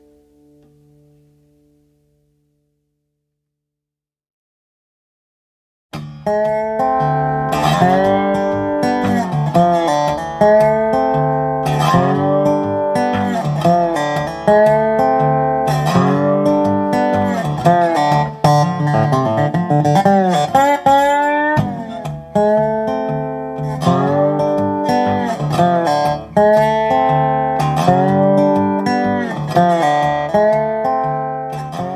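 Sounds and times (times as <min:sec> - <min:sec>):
fingerpicked resonator guitar blues: 0:06.0 - 0:31.9
guitar slide: 0:06.0 - 0:31.9.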